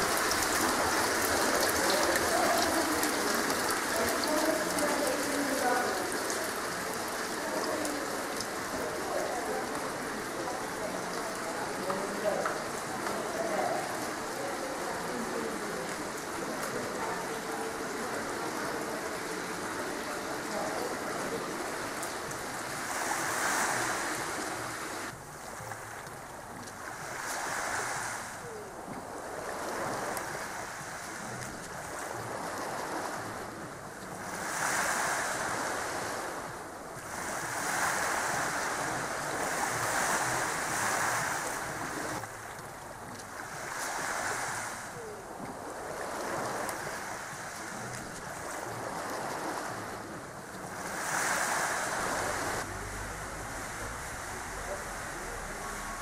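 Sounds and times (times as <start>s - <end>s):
sea waves on shore: 0.0s - 56.0s.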